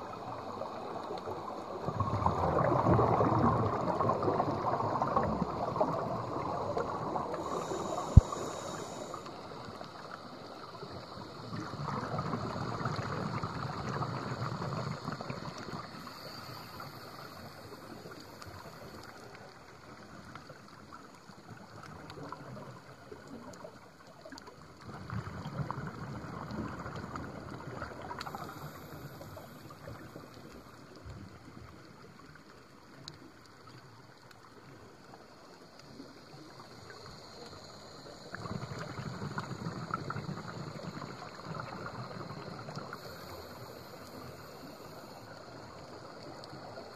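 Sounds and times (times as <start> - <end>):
regulator bubbles underwater: 0.0 - 46.9.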